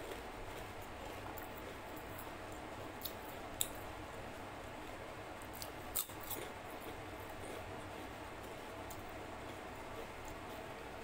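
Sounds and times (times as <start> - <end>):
person chewing crunchy food: 0.0 - 3.8, 4.9 - 10.8
steady low hiss: 0.0 - 11.0.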